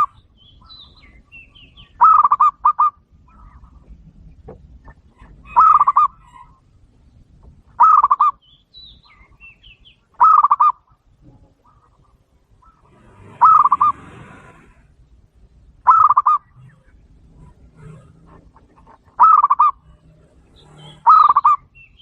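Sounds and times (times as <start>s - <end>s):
doves cooing: 0.0s - 6.9s, 7.7s - 8.4s, 10.1s - 21.8s.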